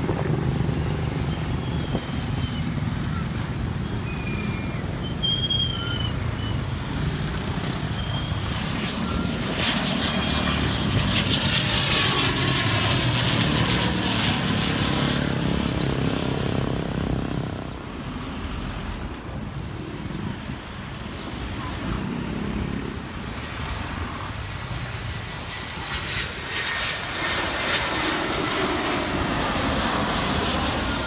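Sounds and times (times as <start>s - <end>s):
airliner engines passing by: 0.0s - 31.0s.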